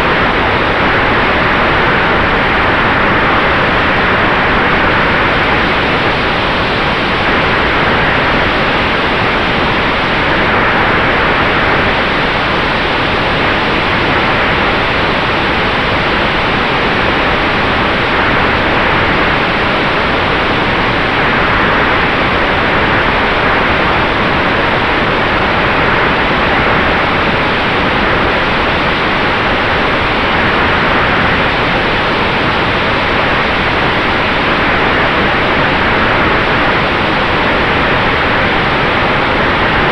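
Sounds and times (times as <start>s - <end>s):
faint constant whine: 0.0s - 39.9s.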